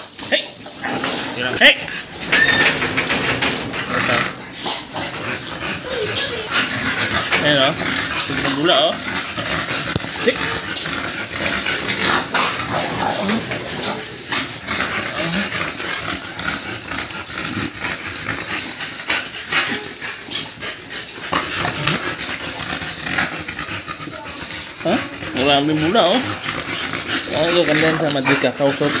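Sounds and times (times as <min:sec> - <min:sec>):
dog making low vocal sounds: 0:00.0 - 0:29.0.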